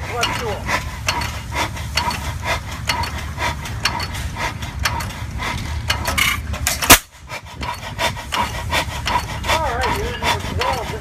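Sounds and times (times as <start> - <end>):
old engine knocking: 0.0 - 7.0, 7.6 - 11.0.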